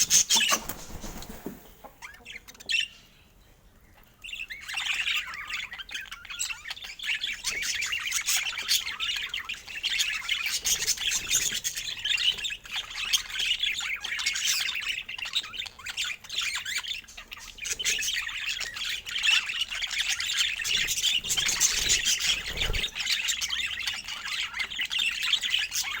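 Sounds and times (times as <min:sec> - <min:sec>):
budgerigars chattering: 0:00.0 - 0:01.1, 0:01.8 - 0:03.1, 0:04.2 - 0:26.0.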